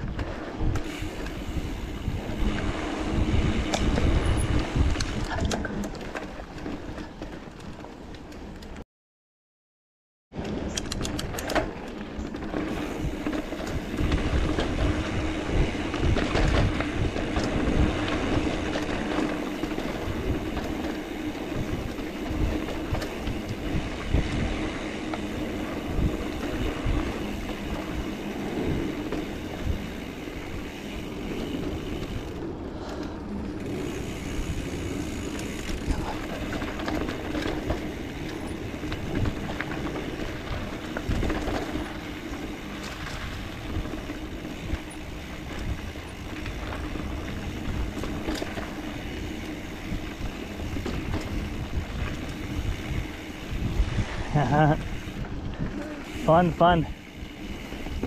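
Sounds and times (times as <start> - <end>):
bike rattling and knocking: 0.0 - 8.8, 10.3 - 58.0
bike tyre rumble on dirt: 0.0 - 8.8, 10.4 - 58.0.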